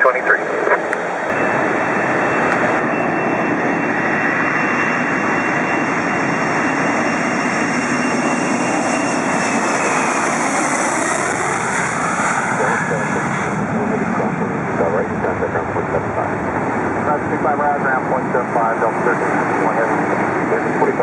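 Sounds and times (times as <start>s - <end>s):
faint engine whine: 0.0s - 21.0s
jet engines at high power: 0.0s - 21.0s.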